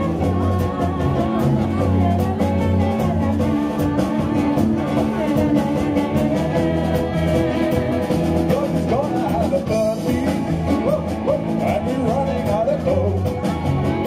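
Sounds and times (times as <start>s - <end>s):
live band playing upbeat song: 0.0s - 14.0s.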